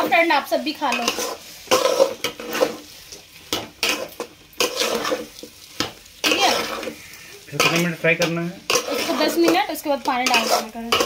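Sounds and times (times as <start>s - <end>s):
food frying in pot: 0.0s - 11.0s
metal spatula scraping pot: 0.0s - 11.0s.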